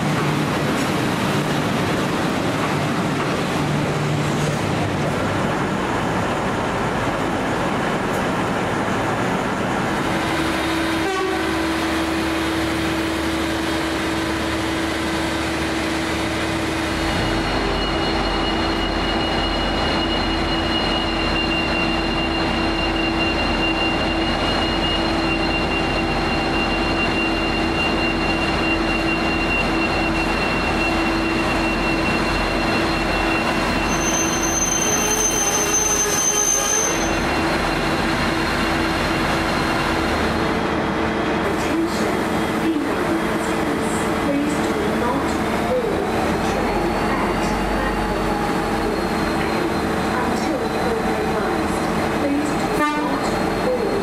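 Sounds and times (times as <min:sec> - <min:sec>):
train mechanical drone: 0:00.0 - 0:54.0.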